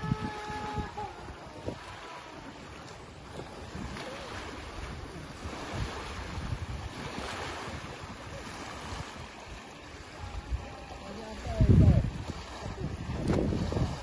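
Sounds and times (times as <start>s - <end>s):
rippling lake water: 0.0s - 14.0s
wind buffeting microphone: 0.0s - 14.0s.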